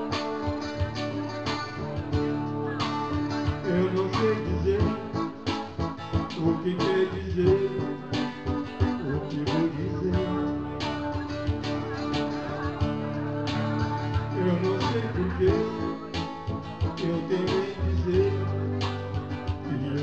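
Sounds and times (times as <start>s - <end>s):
guitar chords strummed: 0.0s - 20.0s
guitar melody: 0.0s - 20.0s.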